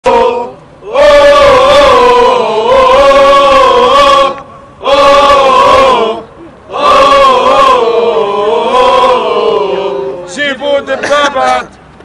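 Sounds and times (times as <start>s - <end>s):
loud chant-like singing: 0.0s - 10.4s.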